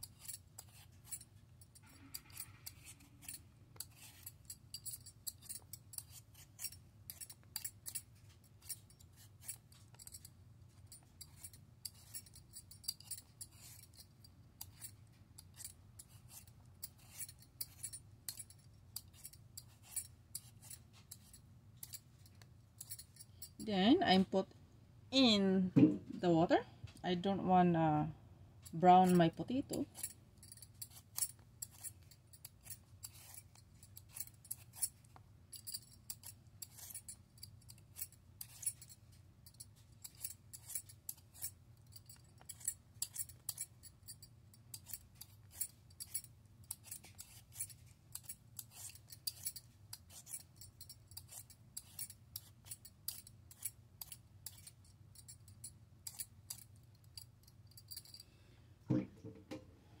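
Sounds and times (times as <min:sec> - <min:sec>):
peeler scraping potato skin: 0:00.0 - 0:23.7, 0:28.7 - 0:58.0.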